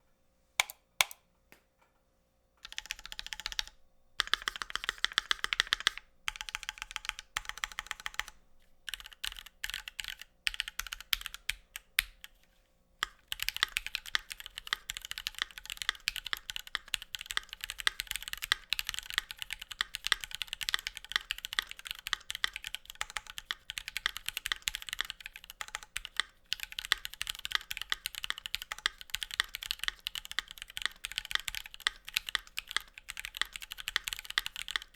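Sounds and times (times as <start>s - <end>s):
typing on mechanical keyboard: 2.6s - 12.4s, 13.0s - 34.9s.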